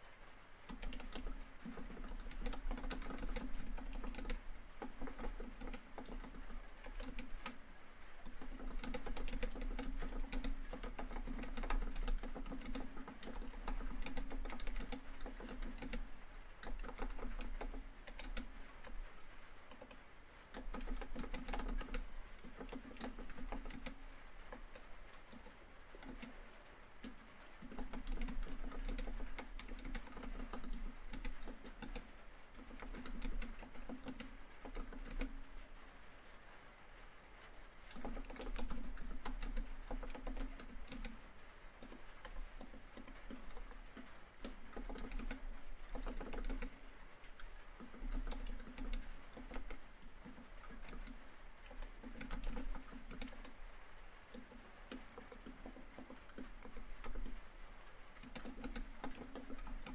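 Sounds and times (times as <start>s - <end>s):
rain on a tin roof: 0.0s - 59.9s
typing on laptop keyboard: 0.6s - 35.7s, 37.8s - 59.9s.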